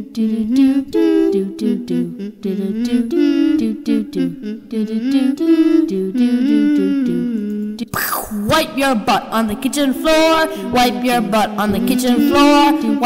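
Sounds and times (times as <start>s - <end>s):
person humming a tune: 0.0s - 8.5s, 10.0s - 13.0s.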